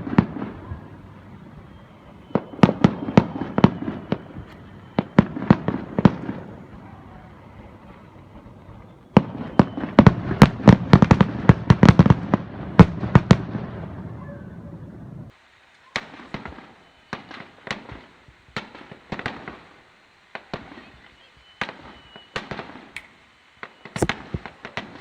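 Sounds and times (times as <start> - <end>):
firework pops: 0.0 - 13.6, 15.8 - 19.7, 20.3 - 25.0
fireworks bangs and crackles: 0.0 - 25.0.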